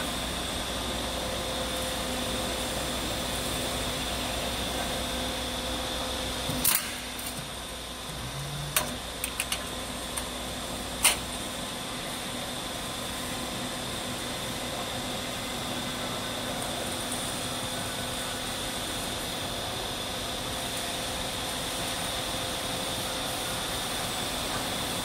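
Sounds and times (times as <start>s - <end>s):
roll forming machine humming: 0.0s - 25.0s.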